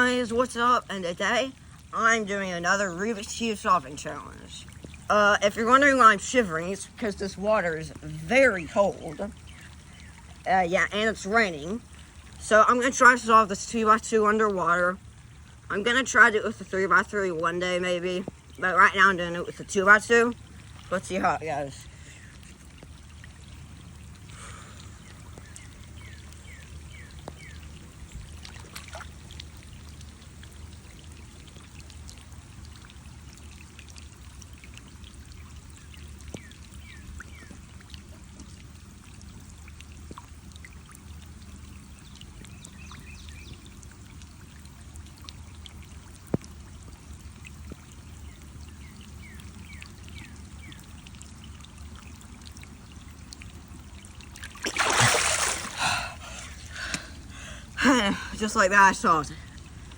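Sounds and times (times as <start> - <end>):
water pouring and trickling: 0.0 - 59.9.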